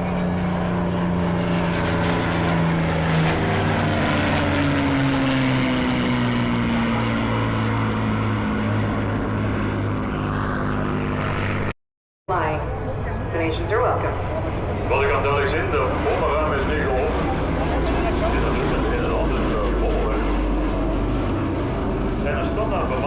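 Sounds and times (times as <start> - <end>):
propeller plane droning past: 0.0 - 11.7, 12.3 - 23.0.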